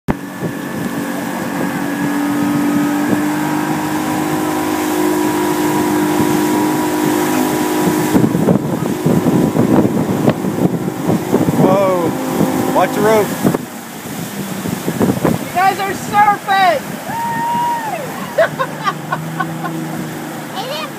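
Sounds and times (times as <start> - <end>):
motorboat engine running: 0.1 - 20.9
rushing wake water: 0.1 - 20.9
wind: 0.1 - 20.9.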